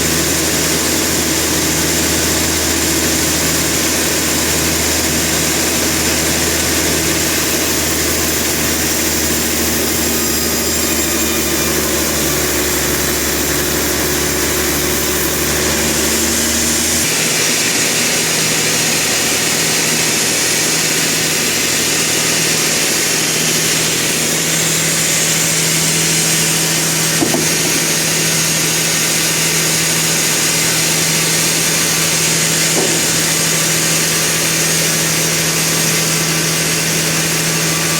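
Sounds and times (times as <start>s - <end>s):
sawmill machinery humming: 0.0s - 37.9s.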